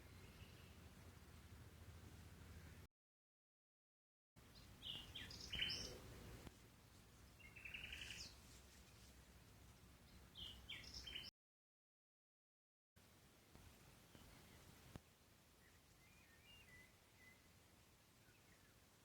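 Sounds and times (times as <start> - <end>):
songbird chirping: 0.0 - 2.8, 4.4 - 11.3, 13.2 - 19.0
faint outdoor background noise: 0.0 - 2.9, 4.4 - 11.3, 13.0 - 19.0.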